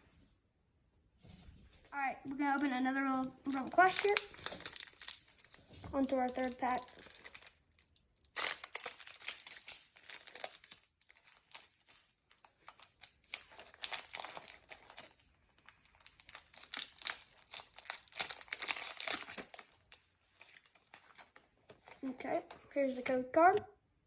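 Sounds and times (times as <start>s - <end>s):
foil wrapper crinkling and tearing: 2.4s - 22.0s.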